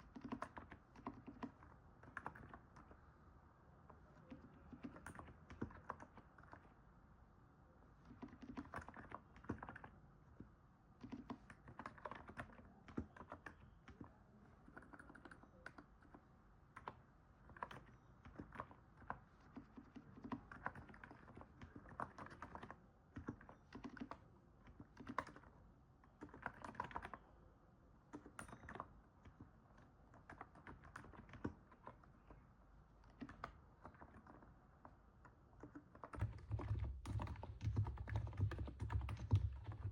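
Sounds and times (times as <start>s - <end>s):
soft keyboard keystrokes: 0.0s - 3.0s, 3.8s - 6.8s, 8.0s - 27.3s, 28.0s - 39.9s.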